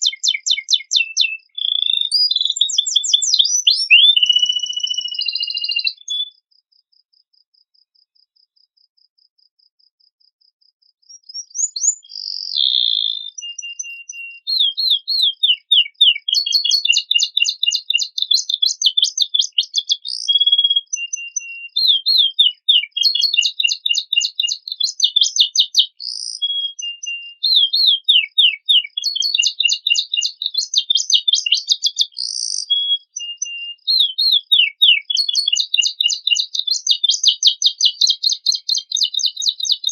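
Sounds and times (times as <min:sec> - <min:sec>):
canary singing: 0:00.0 - 0:06.4, 0:11.1 - 0:39.9.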